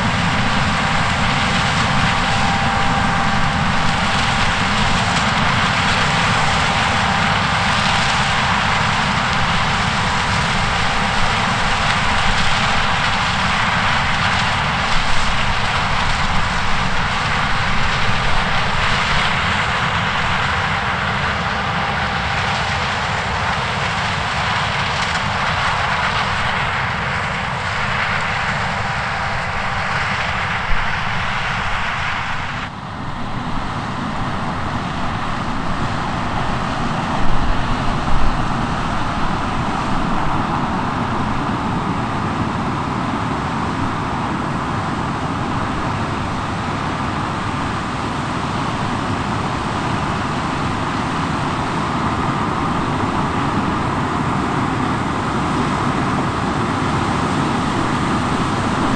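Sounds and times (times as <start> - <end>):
combine harvester running: 0.0 - 58.9
tractor engine: 0.0 - 58.9.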